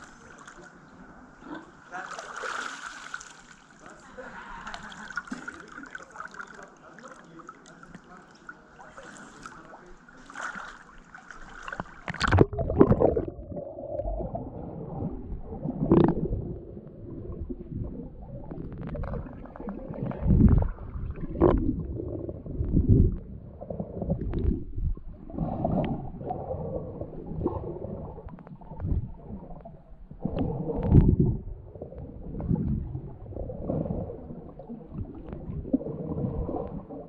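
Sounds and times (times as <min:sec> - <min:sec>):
water gurgling and sloshing underwater: 0:00.0 - 0:37.0.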